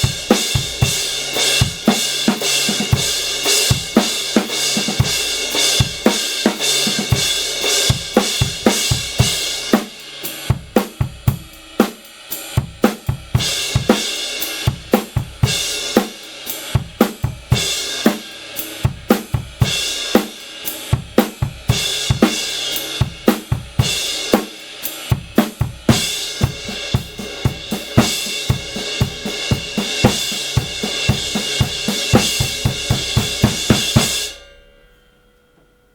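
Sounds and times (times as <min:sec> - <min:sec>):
drum kit groove: 0:00.0 - 0:34.4
crash cymbal: 0:00.0 - 0:35.4.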